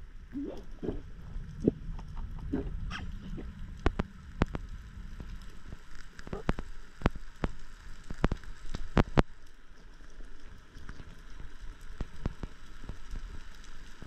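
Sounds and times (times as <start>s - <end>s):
low rumble of water movement: 0.0s - 14.0s
sharp underwater clicks and crackles: 0.0s - 14.0s.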